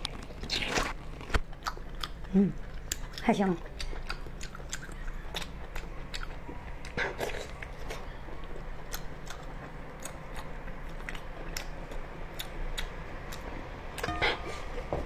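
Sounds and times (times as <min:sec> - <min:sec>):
wet chewing clicks and smacks: 0:00.0 - 0:13.5.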